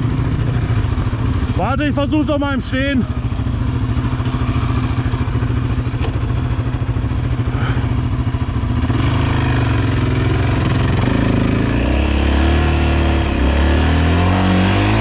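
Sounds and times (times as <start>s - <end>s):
quad engine running and revving: 0.0s - 15.0s.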